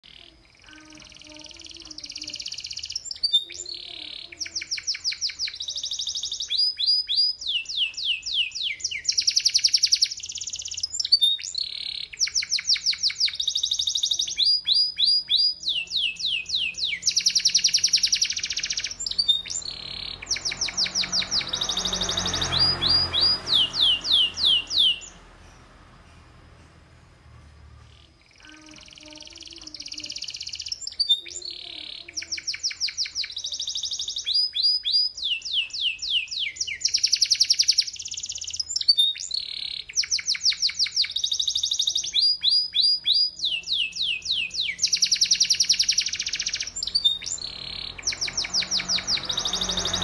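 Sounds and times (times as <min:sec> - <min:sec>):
canary singing trills: 0:00.0 - 0:27.2, 0:27.8 - 0:50.0.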